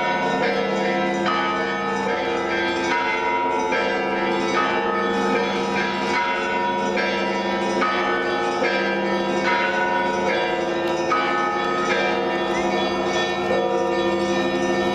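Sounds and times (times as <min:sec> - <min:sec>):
large bell humming: 0:00.0 - 0:14.9.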